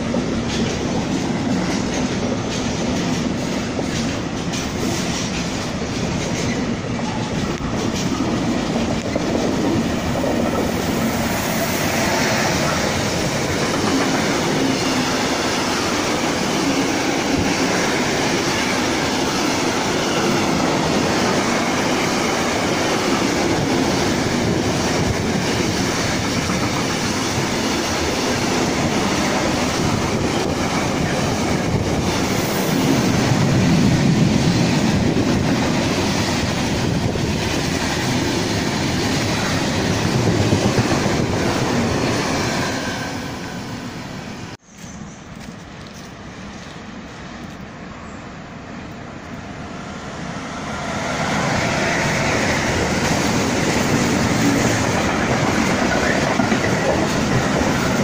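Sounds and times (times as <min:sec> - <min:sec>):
wheels clacking over rail joints: 0:00.0 - 0:11.1, 0:12.0 - 0:42.6, 0:51.4 - 0:58.0
freight wagons rumbling on rails: 0:00.0 - 0:43.3, 0:51.3 - 0:58.0.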